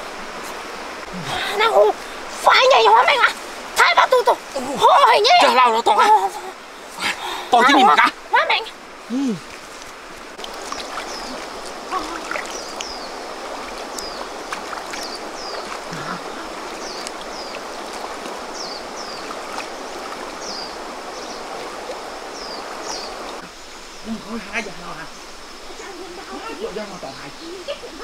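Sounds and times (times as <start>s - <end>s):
stream water running: 0.0s - 28.0s.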